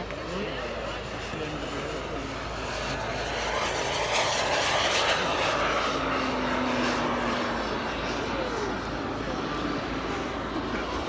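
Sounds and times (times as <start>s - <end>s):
model plane engine flying past: 0.0s - 11.0s.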